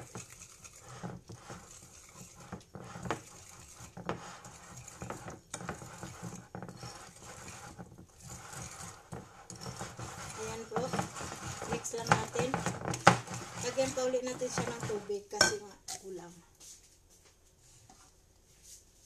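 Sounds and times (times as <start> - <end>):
whisk beating batter in bowl: 0.0 - 16.0.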